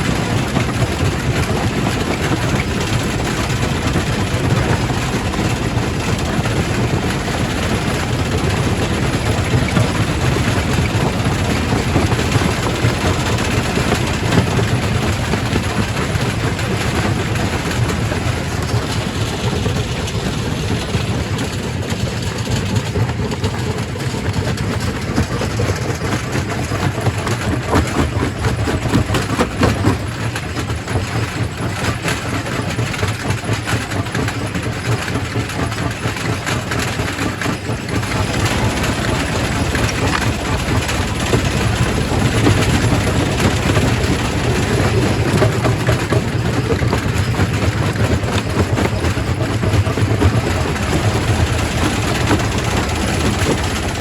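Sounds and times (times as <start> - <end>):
rock crusher rumbling: 0.0 - 54.0.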